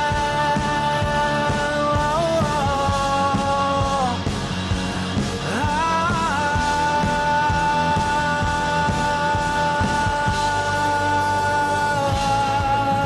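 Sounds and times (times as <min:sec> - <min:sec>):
pop-rock backing music: 0:00.0 - 0:13.0.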